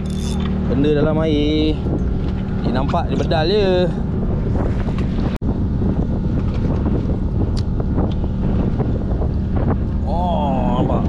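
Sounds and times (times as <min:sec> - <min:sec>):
boat motor humming: 0:00.0 - 0:11.0
wind buffeting microphone: 0:00.0 - 0:11.0.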